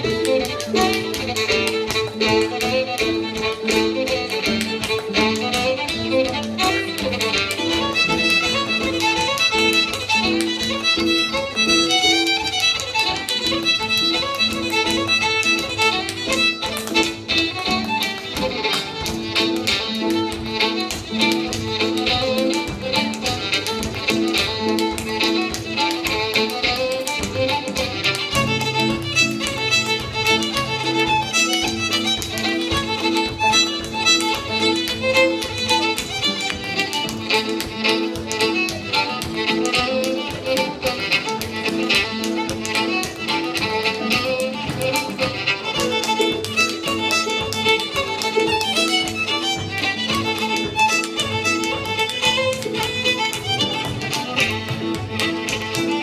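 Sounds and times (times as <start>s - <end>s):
dance shoes tapping on hard floor: 0.0s - 56.0s
fiddle tune: 0.0s - 56.0s.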